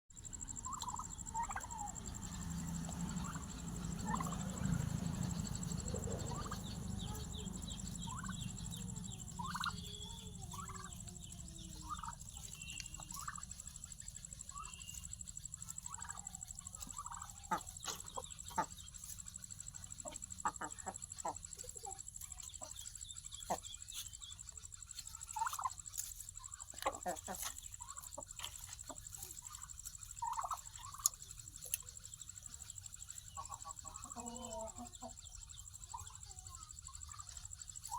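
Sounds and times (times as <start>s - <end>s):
turkeys calling: 0.2s - 37.9s.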